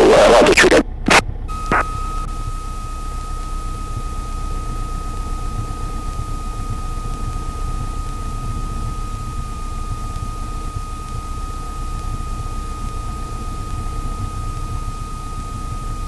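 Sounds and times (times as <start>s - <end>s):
radio hiss and rumble: 0.0s - 15.8s
thin high-pitched whine: 0.0s - 16.0s.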